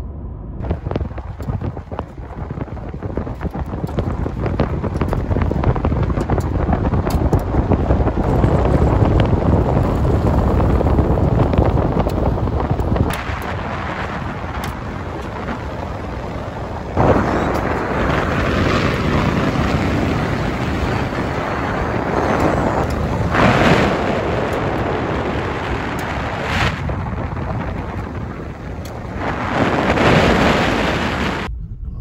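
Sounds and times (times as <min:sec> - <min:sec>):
wind buffeting microphone: 0:00.0 - 0:32.0
tyres rumbling on gravel road: 0:00.6 - 0:31.5.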